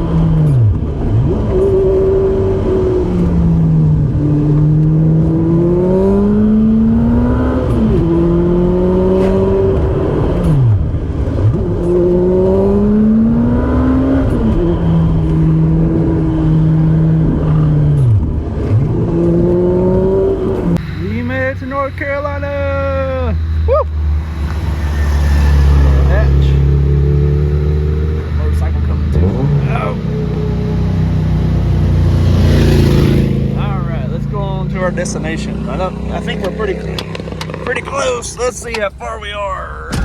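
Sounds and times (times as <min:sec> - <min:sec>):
car engine revving and shifting: 0:00.0 - 0:39.2
road noise: 0:00.0 - 0:40.0.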